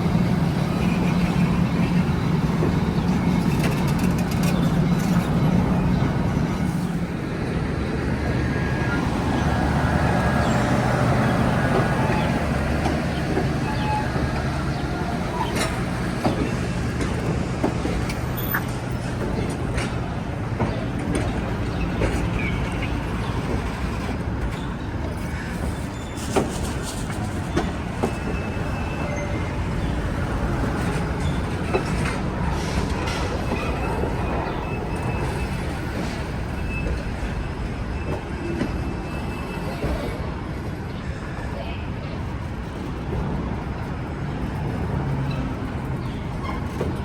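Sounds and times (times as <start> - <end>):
rail clicks and knocks: 0.0 - 47.0
train running on track: 0.0 - 47.0.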